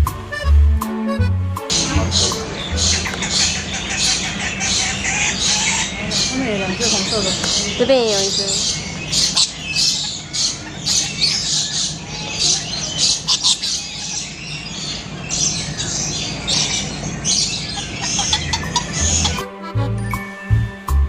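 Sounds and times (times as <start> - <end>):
steady low hum: 0.2 - 14.0, 16.2 - 20.7
birds squawking and chattering: 1.7 - 19.5.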